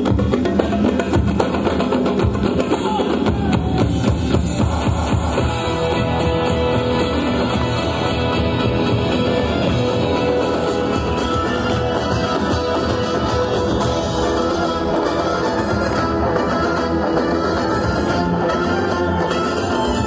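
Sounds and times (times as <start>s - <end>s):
loud music with a beat: 0.0s - 20.0s.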